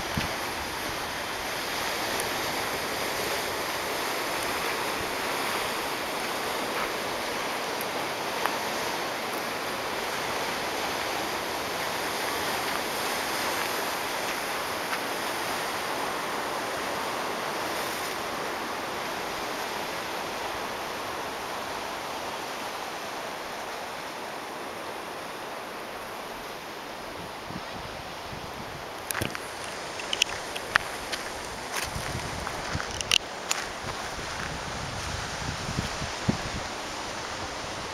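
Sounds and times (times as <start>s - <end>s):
ocean surf on rocky shore: 0.0s - 37.9s.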